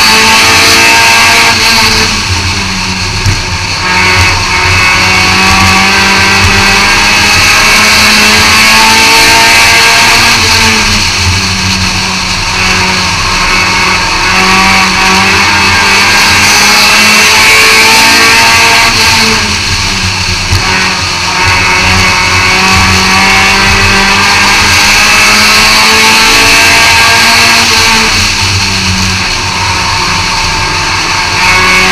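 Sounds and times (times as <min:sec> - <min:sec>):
race car engine revving: 0:00.0 - 0:31.9.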